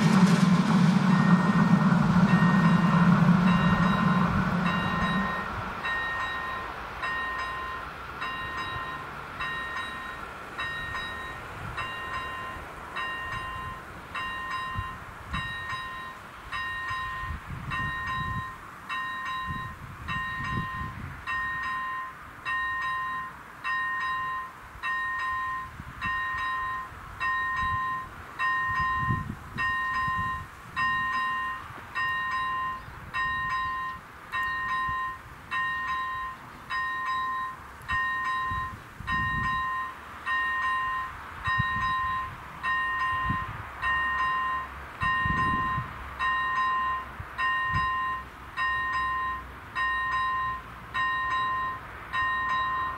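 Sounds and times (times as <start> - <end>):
level crossing warning bell: 1.2 - 52.9.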